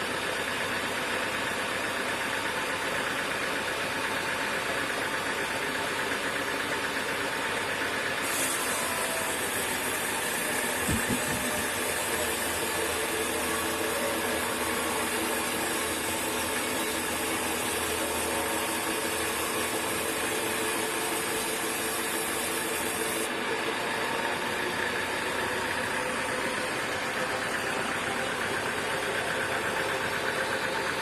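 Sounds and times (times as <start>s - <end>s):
sawmill machinery hum: 0.0s - 31.0s.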